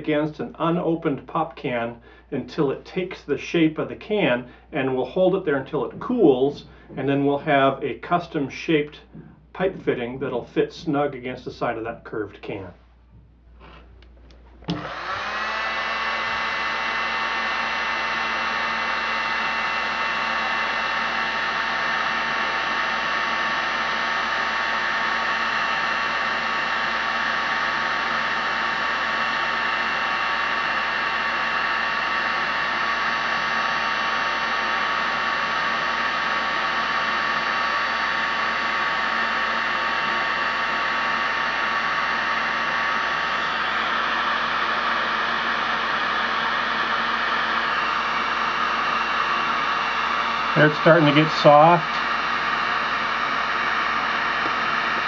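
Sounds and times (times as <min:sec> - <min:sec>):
heat gun fan whining: 0:00.0 - 0:11.8, 0:12.6 - 0:55.0.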